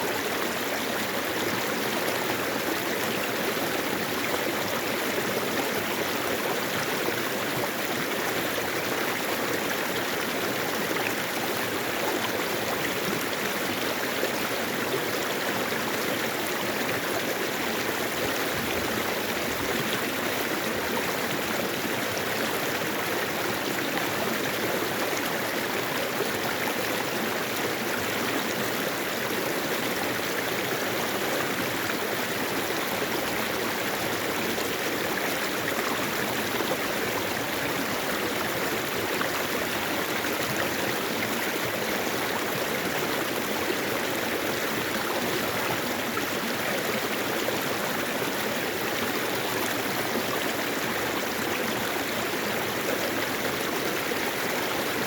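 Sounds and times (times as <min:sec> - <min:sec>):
stream water running over rocks: 0:00.0 - 0:55.0.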